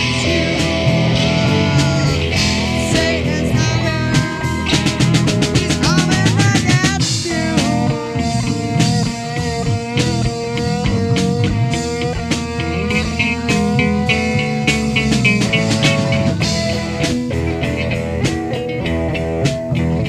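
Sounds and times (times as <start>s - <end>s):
drum kit playing: 0.0s - 20.0s
guitar sliding notes: 0.0s - 20.0s.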